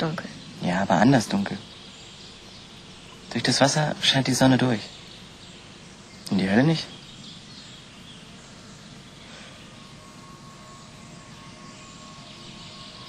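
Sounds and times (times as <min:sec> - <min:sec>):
faint steady tone: 0:00.0 - 0:13.0
hiss and low rumble: 0:00.0 - 0:13.0.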